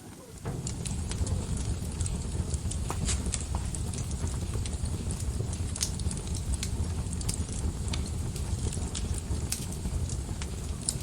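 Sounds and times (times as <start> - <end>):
burning wood crackling and popping: 0.0 - 11.0
low rumble of flames: 0.0 - 11.0.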